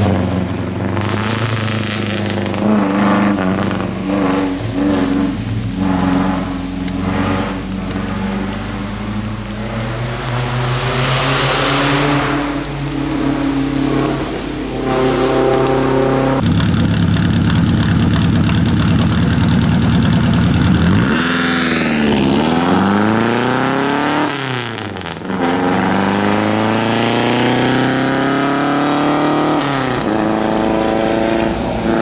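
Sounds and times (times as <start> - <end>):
racing car engine revving: 0.0 - 32.0.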